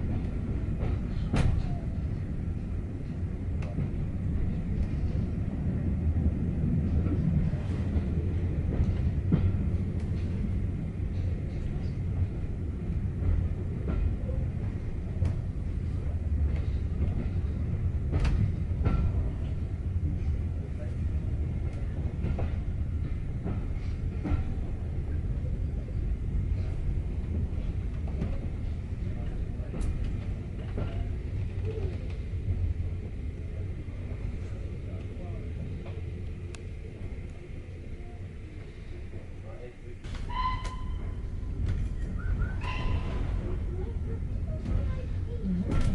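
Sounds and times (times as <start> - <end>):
train rumbling along track: 0.0 - 45.9.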